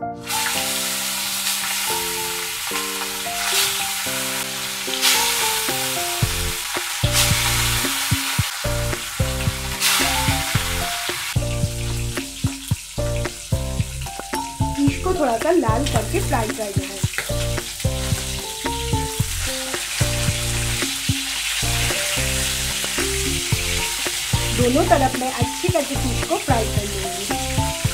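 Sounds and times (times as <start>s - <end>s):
fish sizzling in hot oil: 0.2s - 27.9s.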